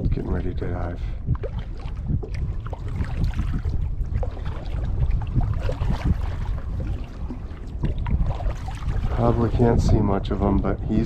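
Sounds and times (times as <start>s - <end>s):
water splashing against hull: 0.0s - 11.0s
wind rumble on microphone: 0.0s - 11.0s
kayak paddle dipping into water: 1.3s - 10.8s.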